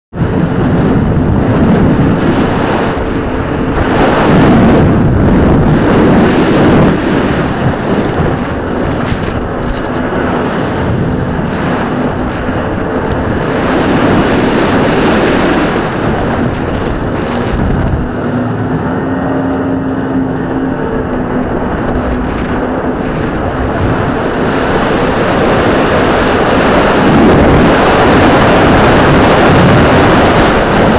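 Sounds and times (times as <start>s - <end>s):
jet ski engine hum: 0.1s - 30.9s
wind noise on microphone: 0.1s - 30.9s
water rushing: 0.2s - 30.9s.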